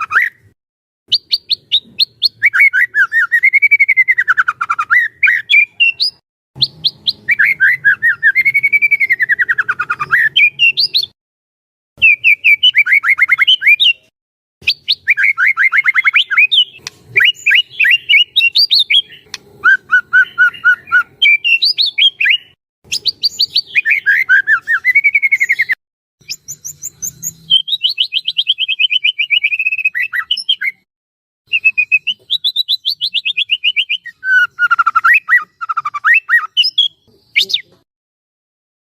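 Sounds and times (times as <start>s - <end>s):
bird singing varied song: 0.0s - 11.2s, 12.0s - 30.9s, 31.5s - 37.9s.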